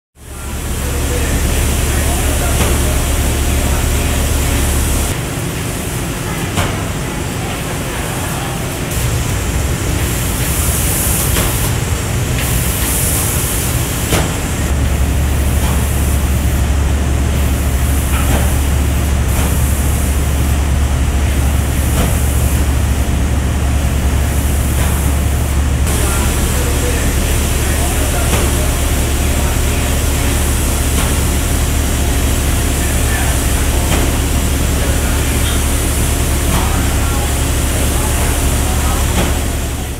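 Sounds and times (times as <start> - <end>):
low hum of motors: 0.2 - 39.9.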